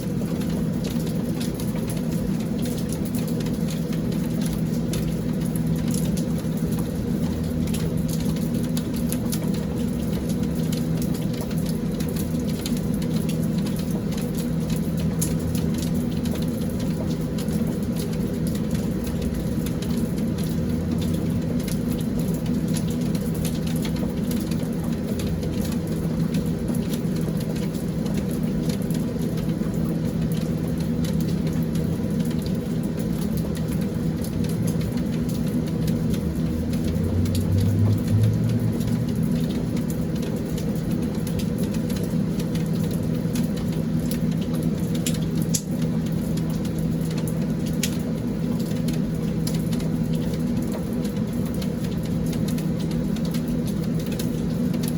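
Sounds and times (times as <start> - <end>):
rain pattering: 0.0 - 54.9.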